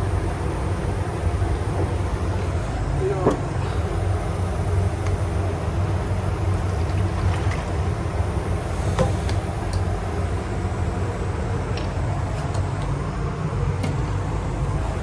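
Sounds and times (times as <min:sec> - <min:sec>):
low machine hum: 0:00.0 - 0:15.0
noisy hiss: 0:00.0 - 0:15.0.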